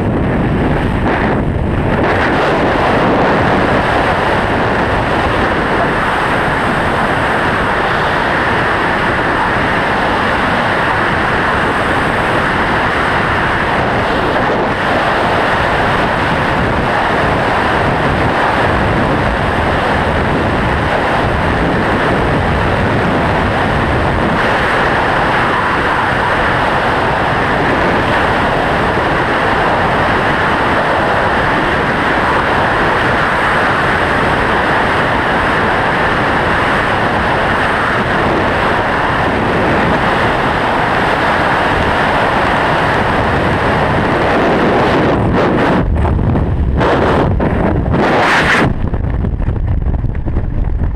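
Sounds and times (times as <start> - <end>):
wind roaring across microphone: 0.0 - 50.9.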